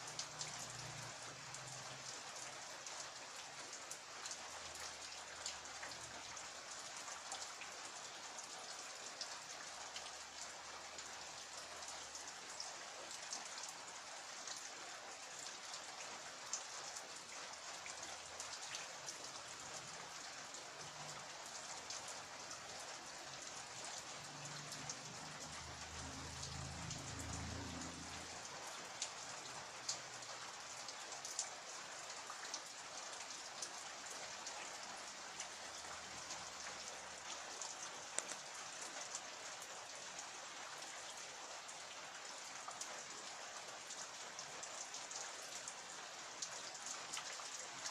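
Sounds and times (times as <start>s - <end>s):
raindrops ticking on surfaces: 0.0s - 47.9s
steady rain falling: 0.0s - 47.9s.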